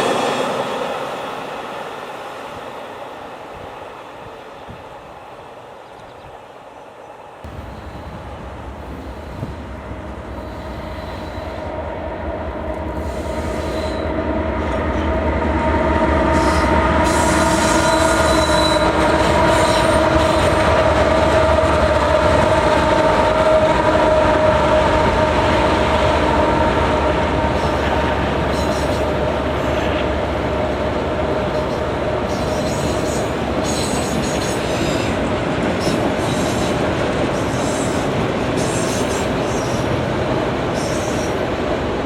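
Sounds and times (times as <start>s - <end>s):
train running past: 0.0s - 42.0s.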